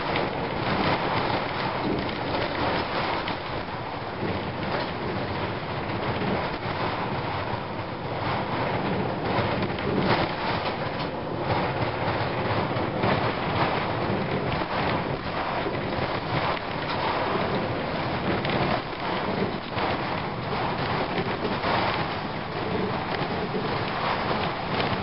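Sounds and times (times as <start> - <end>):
bus engine and road rumble: 0.0 - 25.0
knocks and rattles: 0.0 - 25.0.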